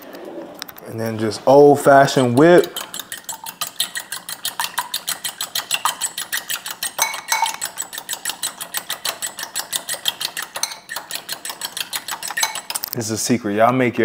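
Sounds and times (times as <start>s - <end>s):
whisk clicking against bowl: 1.1s - 13.1s.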